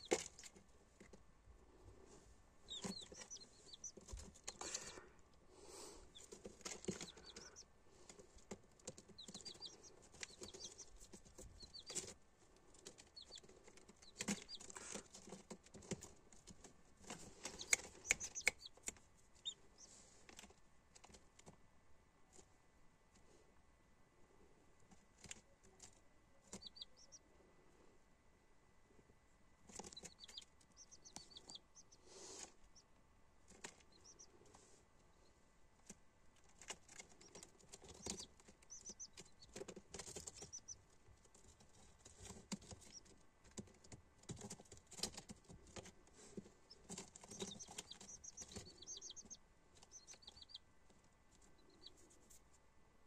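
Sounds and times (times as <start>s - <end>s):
chicks peeping: 0.0s - 21.5s, 24.9s - 27.5s, 29.6s - 52.4s
chicks pecking and scratching: 0.0s - 23.4s, 24.7s - 27.8s, 29.5s - 52.7s.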